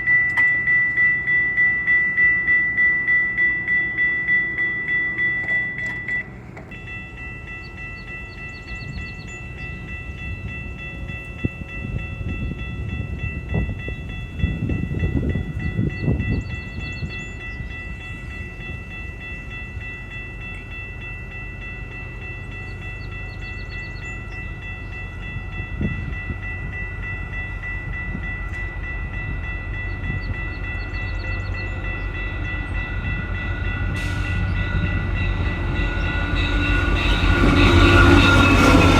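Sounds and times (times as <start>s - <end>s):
passenger train rumble: 0.0s - 38.9s.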